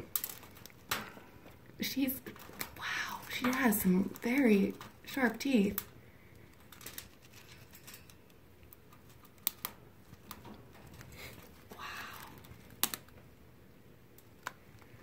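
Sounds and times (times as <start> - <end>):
squirrel gnawing plastic wrapping: 0.0 - 15.0.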